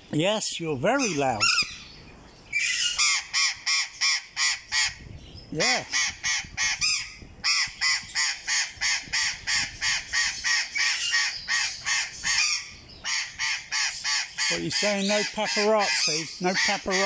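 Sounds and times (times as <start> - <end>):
parrots squawking harshly: 0.9 - 1.9, 2.5 - 5.0, 5.6 - 17.0.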